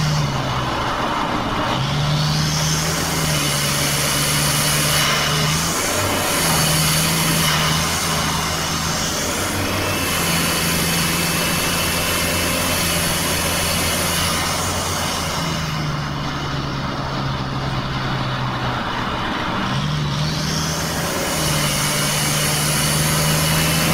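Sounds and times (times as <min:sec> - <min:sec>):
diesel engine droning: 0:00.0 - 0:23.9
road and wind noise: 0:00.0 - 0:23.9.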